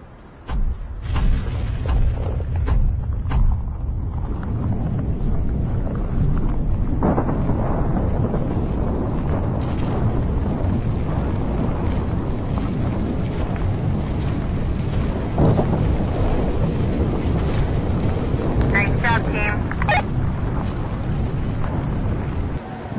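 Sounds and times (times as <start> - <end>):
building collapsing rumble: 0.0 - 22.9
heavy booms: 0.0 - 22.9.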